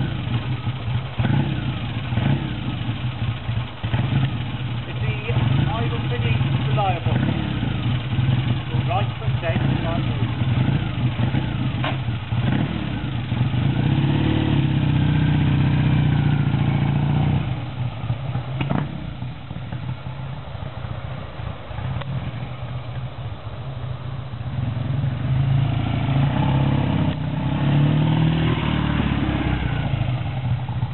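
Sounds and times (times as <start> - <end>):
motorcycle accelerating: 0.0 - 30.9.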